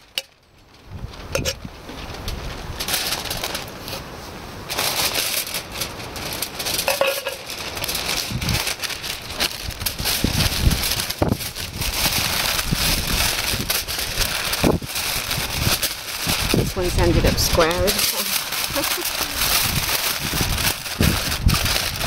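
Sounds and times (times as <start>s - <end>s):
paper crinkling: 0.0s - 22.0s.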